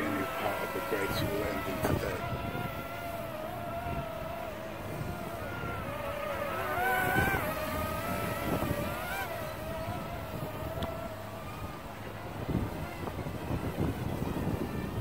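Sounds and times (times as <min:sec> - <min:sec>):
drone propellers whining: 0:00.0 - 0:15.0
wind rumble on microphone: 0:00.0 - 0:15.0.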